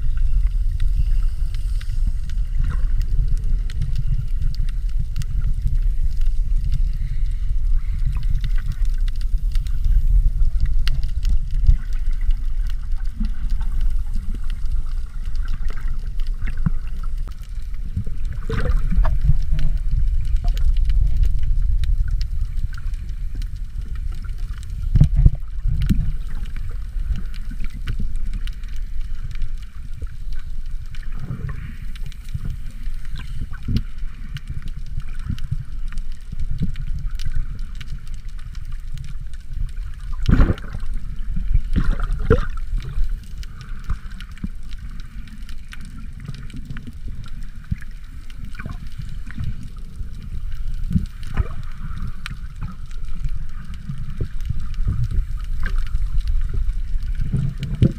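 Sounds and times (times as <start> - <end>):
bubbly clicks and crackles: 0.0 - 57.9
underwater rumble of moving water: 0.0 - 57.9.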